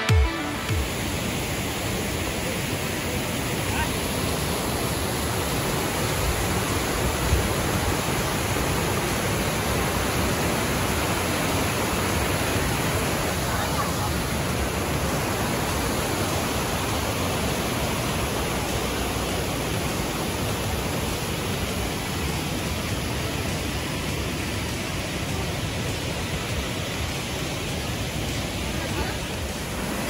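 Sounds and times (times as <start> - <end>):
white water rushing: 0.0 - 30.0.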